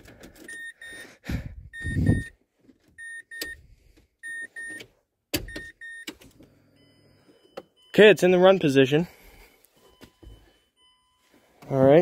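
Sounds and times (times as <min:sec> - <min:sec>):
car warning chime beeping: 0:00.4 - 0:12.0.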